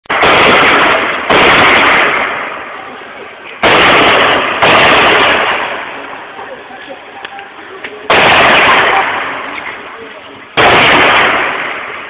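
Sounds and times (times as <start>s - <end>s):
gunshots echoing: 0.1s - 6.5s, 8.0s - 12.0s.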